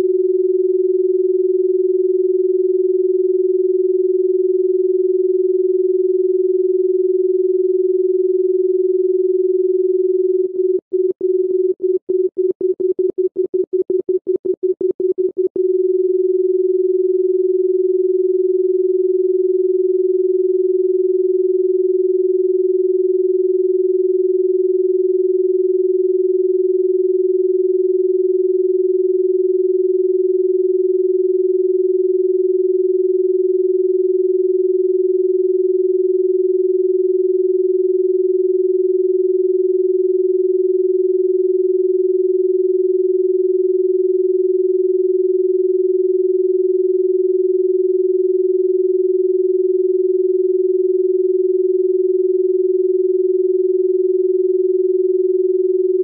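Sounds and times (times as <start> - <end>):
steady electronic sine tone: 0.0 - 56.0.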